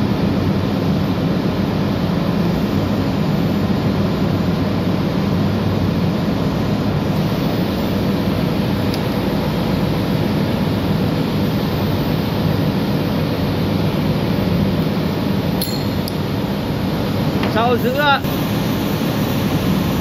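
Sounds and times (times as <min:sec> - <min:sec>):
engine room machinery drone: 0:00.0 - 0:20.0.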